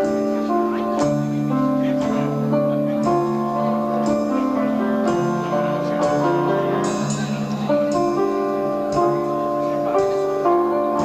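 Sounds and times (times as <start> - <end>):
rock band playing live: 0.0 - 11.0.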